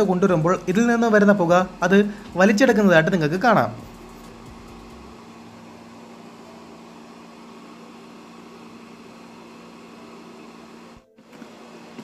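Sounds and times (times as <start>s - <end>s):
fan whirring: 0.0s - 12.0s
low steady hum: 0.0s - 12.0s.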